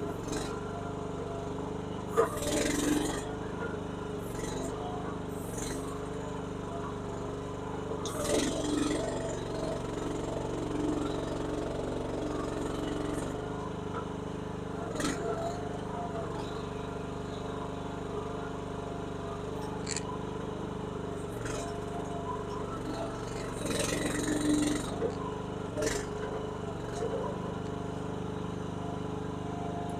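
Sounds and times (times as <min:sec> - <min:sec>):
small engine running: 0:00.0 - 0:29.9.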